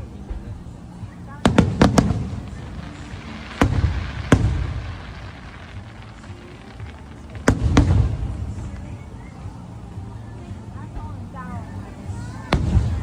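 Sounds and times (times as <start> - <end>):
fireworks bangs with rolling rumble: 0.0 - 13.0.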